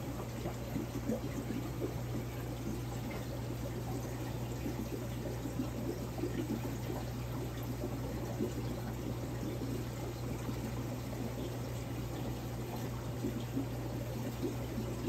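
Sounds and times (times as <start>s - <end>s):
water trickling and pouring: 0.1s - 15.0s.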